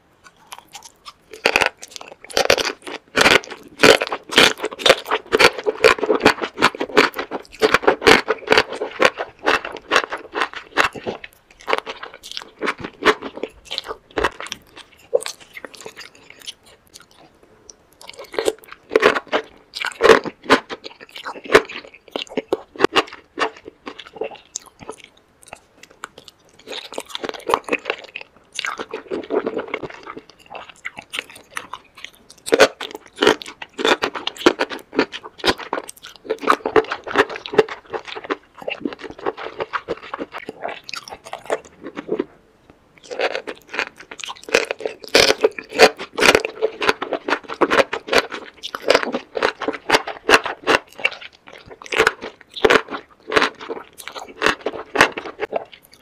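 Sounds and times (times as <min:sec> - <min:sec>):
wet crunching and chewing: 0:00.2 - 0:42.4, 0:43.0 - 0:56.0.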